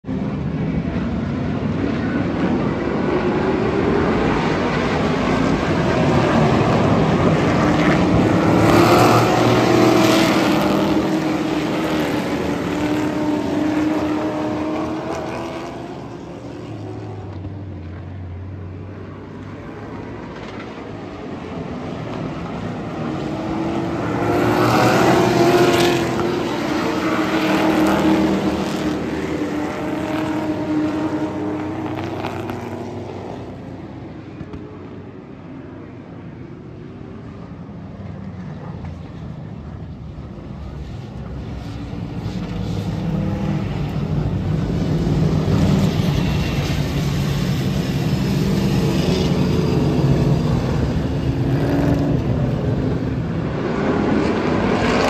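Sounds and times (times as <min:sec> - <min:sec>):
stock cars racing: 0:00.0 - 0:55.0.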